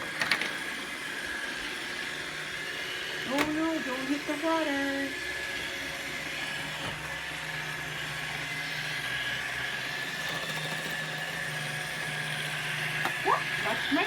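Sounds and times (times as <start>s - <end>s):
robot vacuum whirring: 0.0s - 14.0s.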